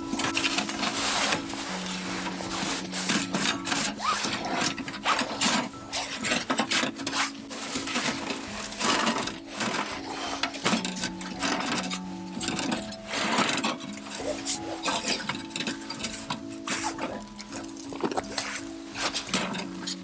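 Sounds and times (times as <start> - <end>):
wood and metal stove clattering: 0.0 - 20.0.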